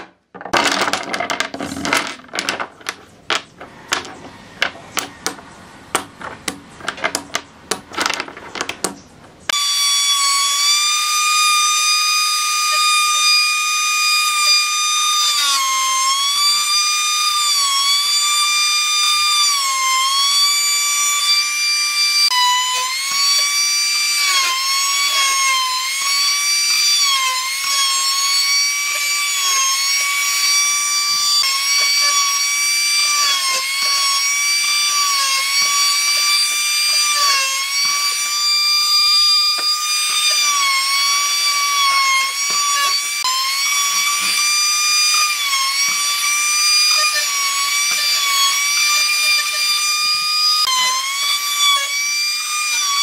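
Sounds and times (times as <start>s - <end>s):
electric power tool whining: 0.0s - 5.5s, 9.5s - 53.0s.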